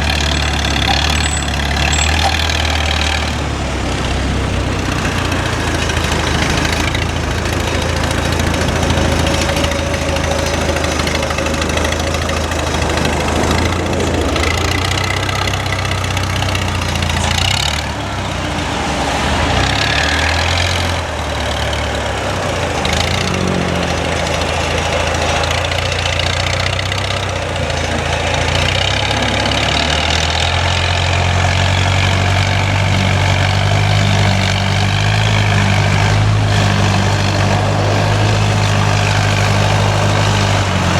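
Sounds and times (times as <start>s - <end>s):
diesel engine running: 0.0s - 40.9s
machinery whine: 0.0s - 40.9s.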